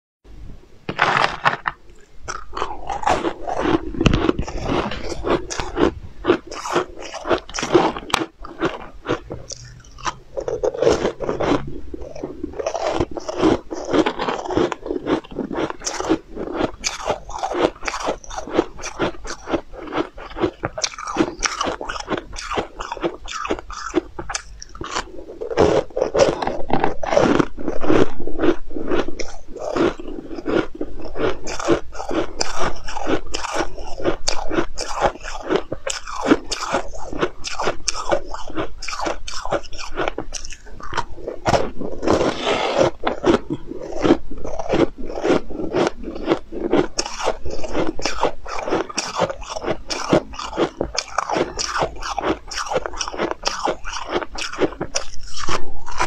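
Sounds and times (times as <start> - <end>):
crunchy cookie chewing: 0.9 - 56.0.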